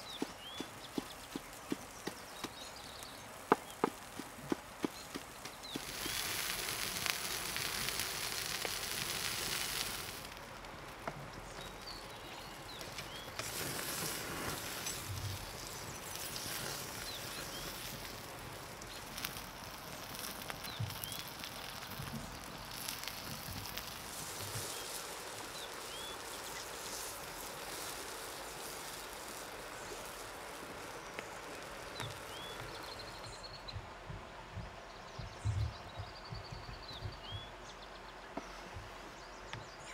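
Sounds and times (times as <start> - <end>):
steak sizzling on hot stone: 0.0 - 33.4
fire crackling: 0.0 - 34.4.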